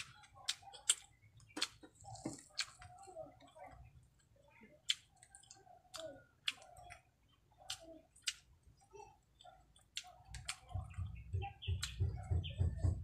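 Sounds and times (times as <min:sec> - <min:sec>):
chewing: 0:00.0 - 0:12.8.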